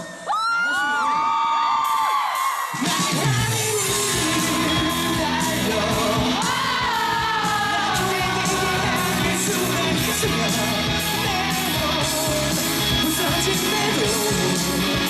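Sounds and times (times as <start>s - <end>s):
live rock band playing: 2.7s - 15.0s.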